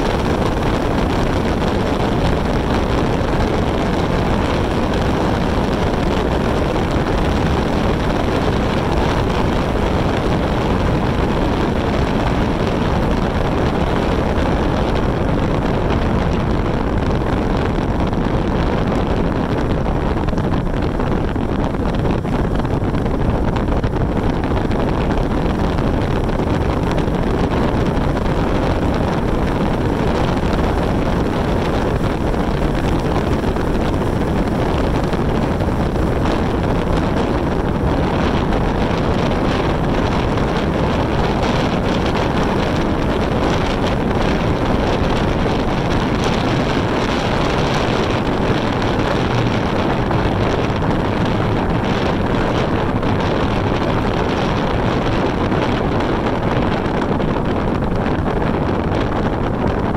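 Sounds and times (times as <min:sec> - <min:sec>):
vehicle road noise: 0:00.0 - 0:59.9
wind buffeting microphone: 0:00.0 - 0:59.9.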